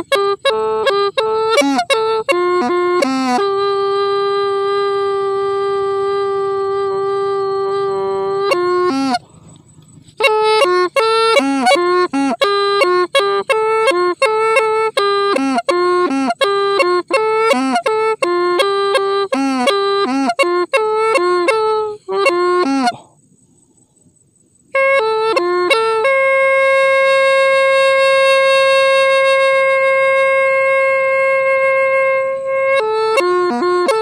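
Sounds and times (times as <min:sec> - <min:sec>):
bamboo pipe melody: 0:00.0 - 0:23.1, 0:24.7 - 0:34.0.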